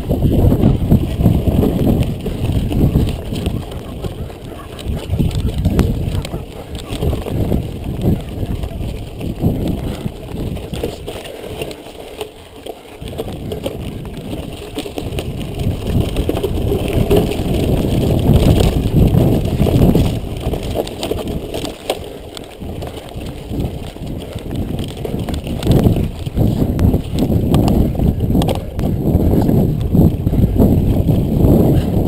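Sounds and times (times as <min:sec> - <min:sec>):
bike rattling and knocking: 0:00.0 - 0:32.0
wind buffeting microphone: 0:00.0 - 0:32.0.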